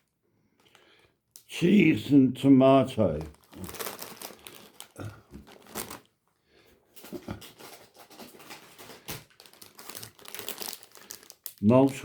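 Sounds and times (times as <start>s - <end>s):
plastic snack packets crinkling: 0.0s - 2.1s, 2.7s - 6.2s, 7.0s - 12.0s.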